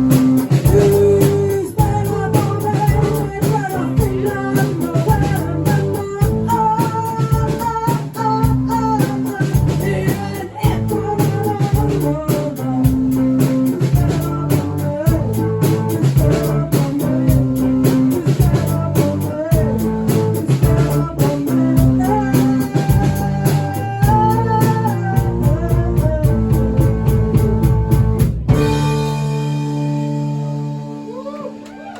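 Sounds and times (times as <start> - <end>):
live band playing: 0.0 - 31.9
person singing: 0.0 - 31.9.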